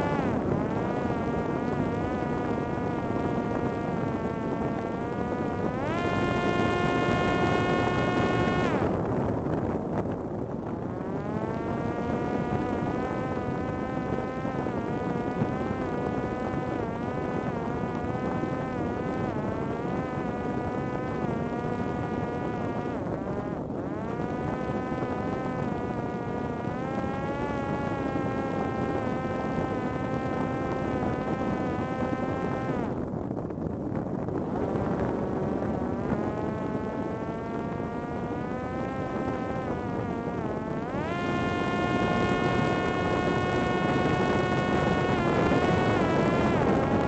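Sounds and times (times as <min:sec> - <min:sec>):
drone motor buzzing whine: 0:00.0 - 0:47.0
wind rushing on microphone: 0:00.0 - 0:47.0.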